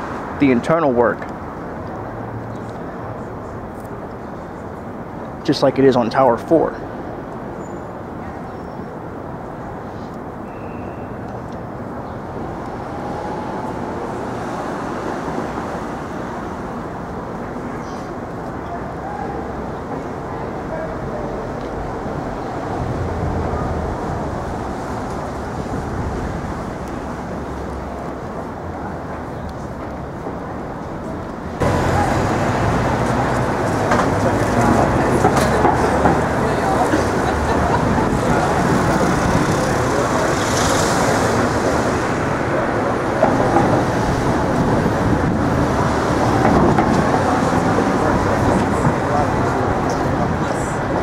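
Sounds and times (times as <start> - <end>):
rumble of passing vehicles: 0.0 - 51.0.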